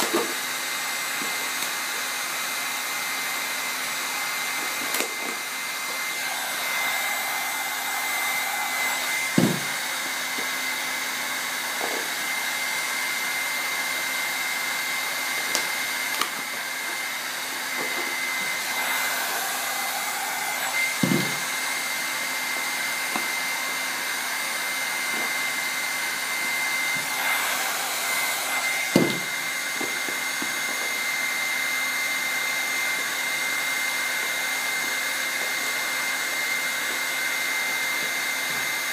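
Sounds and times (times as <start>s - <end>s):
heat gun blowing: 0.0s - 38.9s.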